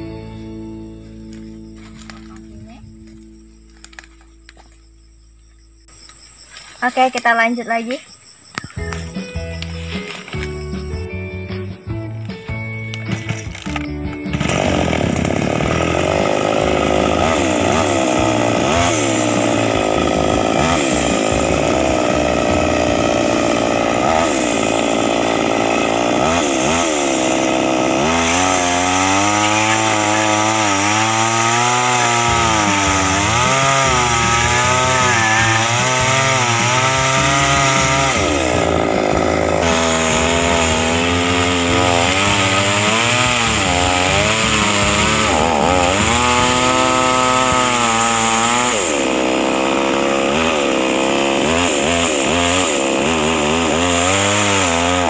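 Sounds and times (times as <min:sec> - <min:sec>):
chainsaw revving and cutting wood: 0:01.2 - 0:04.2, 0:08.9 - 0:55.0.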